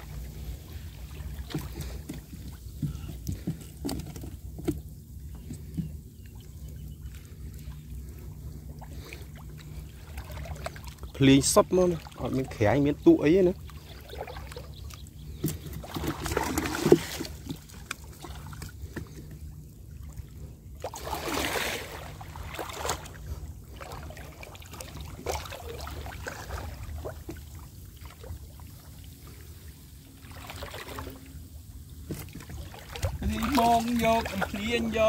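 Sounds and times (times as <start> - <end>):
low steady rumble: 0.0 - 35.0
water sloshing and splashing: 0.0 - 35.0.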